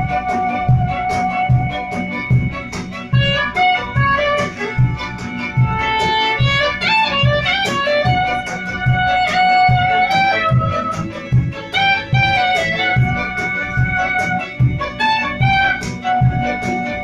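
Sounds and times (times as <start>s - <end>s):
backing track with steady beat: 0.0s - 17.0s
soprano saxophone melody: 0.0s - 17.0s.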